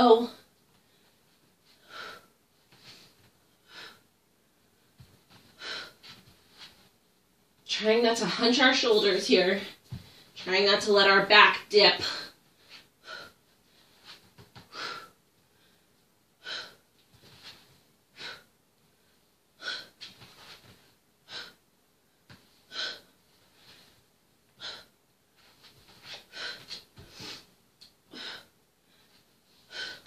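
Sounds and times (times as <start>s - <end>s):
woman breathing heavily: 0.4s - 6.9s, 9.5s - 10.4s, 12.0s - 30.0s.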